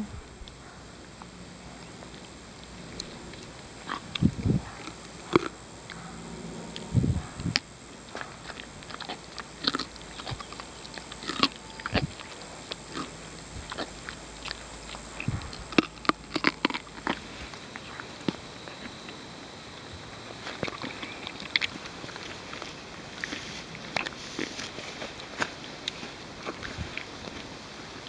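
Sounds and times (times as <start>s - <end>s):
horses crunching carrots: 0.4s - 28.0s.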